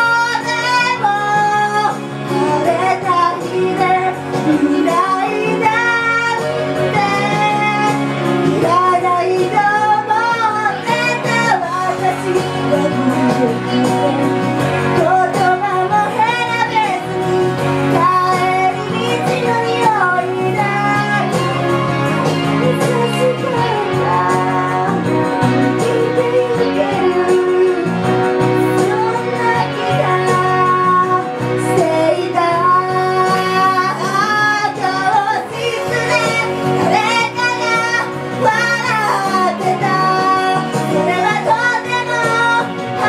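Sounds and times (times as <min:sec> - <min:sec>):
instrumental accompaniment: 0:00.0 - 0:43.0
women singing: 0:00.0 - 0:43.0.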